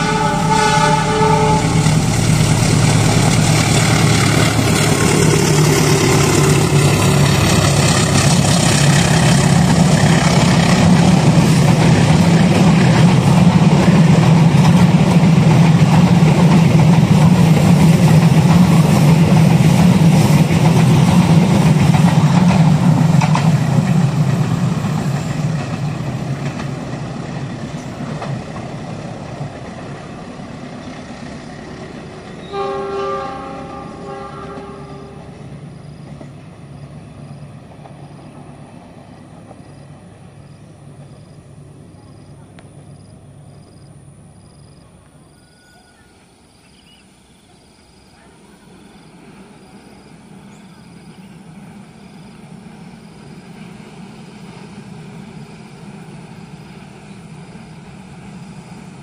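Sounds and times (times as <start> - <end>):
passenger train engine drone: 0.0 - 59.0.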